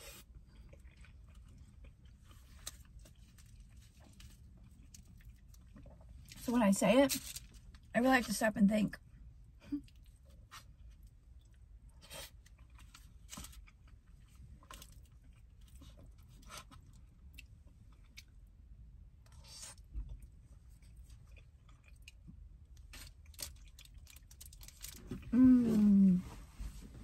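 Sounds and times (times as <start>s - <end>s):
close chewing of food: 0.0s - 7.9s, 9.0s - 25.8s.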